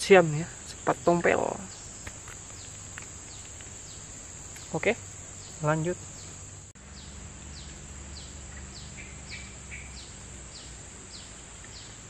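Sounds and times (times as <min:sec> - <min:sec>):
high insect drone: 0:00.0 - 0:12.0
higher bird chirps: 0:00.4 - 0:12.0.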